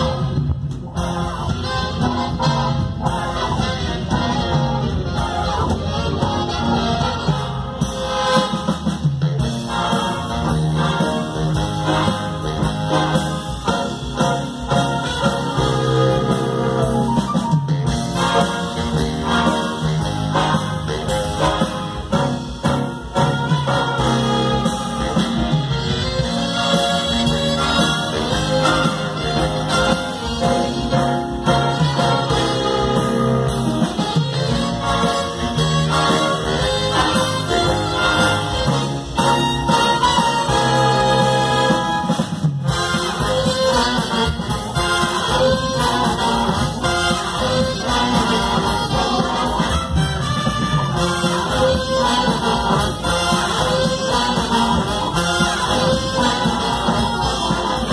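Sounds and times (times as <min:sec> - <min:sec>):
big band playing: 0:00.0 - 0:57.9.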